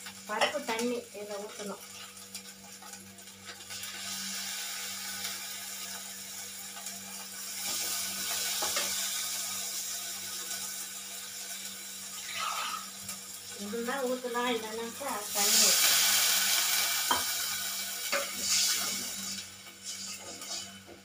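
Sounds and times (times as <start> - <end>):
liquid hissing in hot pan: 3.3 - 21.0.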